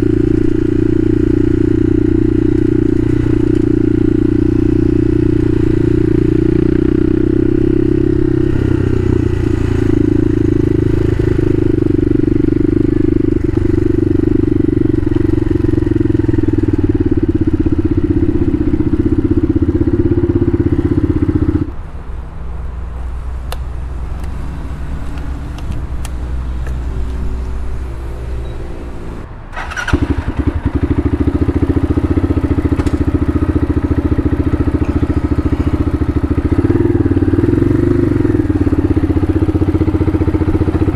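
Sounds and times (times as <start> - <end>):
motorcycle engine running hard: 0.0 - 21.7, 27.5 - 40.9.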